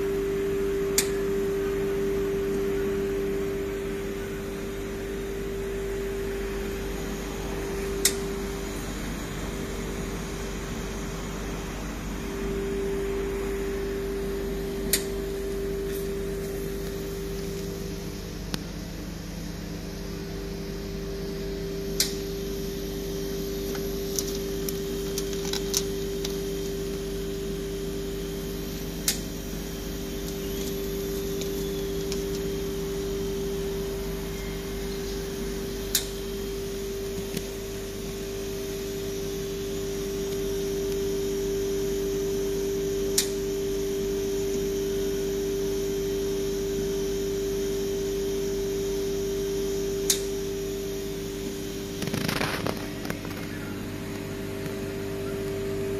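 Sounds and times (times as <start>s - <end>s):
machine humming: 0.0s - 55.9s.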